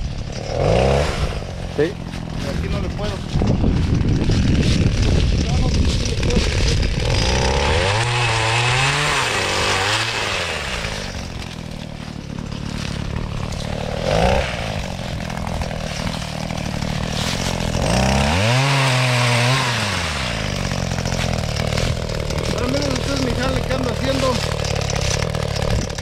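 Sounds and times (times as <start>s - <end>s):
pole saw engine revving: 0.0s - 26.0s.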